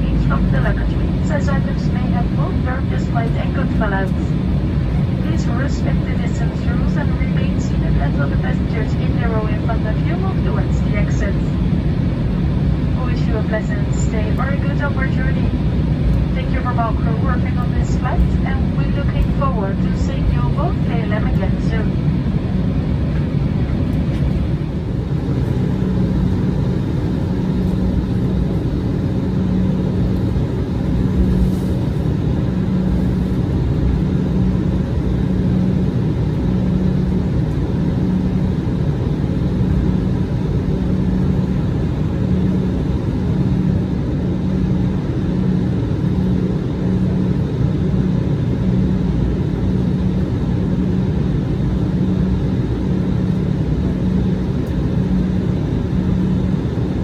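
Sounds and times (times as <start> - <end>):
jet cabin engine drone: 0.0 - 57.0.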